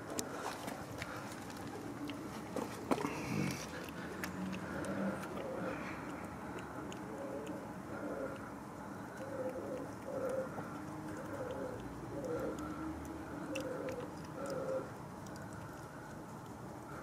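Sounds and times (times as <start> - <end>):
cat chewing wet food: 0.0 - 17.0
pigeon cooing: 1.7 - 16.0.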